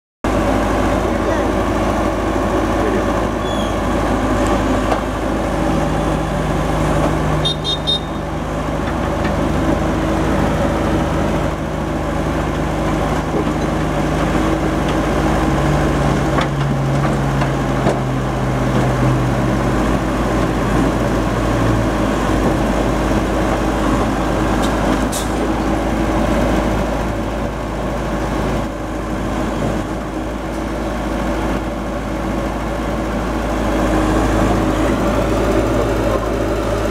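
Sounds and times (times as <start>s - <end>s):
diesel engine running: 0.2s - 36.9s.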